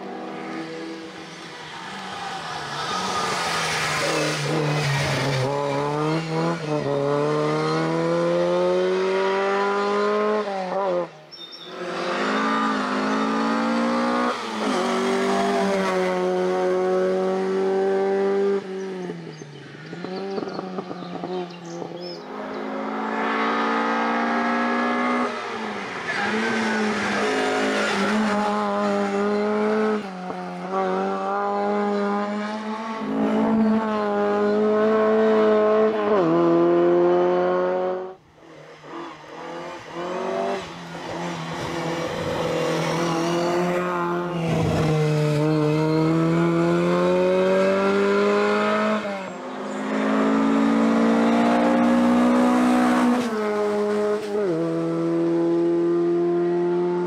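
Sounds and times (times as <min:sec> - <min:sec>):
racing car engine revving through gears: 0:02.8 - 0:38.2, 0:38.8 - 0:57.0.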